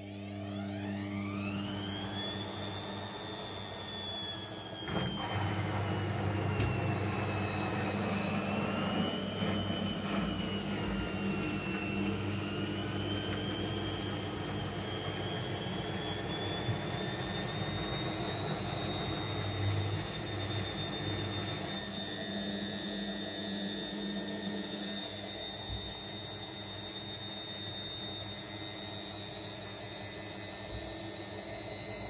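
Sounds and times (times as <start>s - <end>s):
washing machine spinning: 0.0s - 32.0s.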